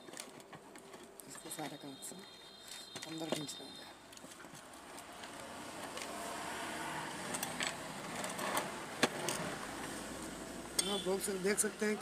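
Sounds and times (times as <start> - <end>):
rustle and scrape of handling wires: 0.0 - 10.4.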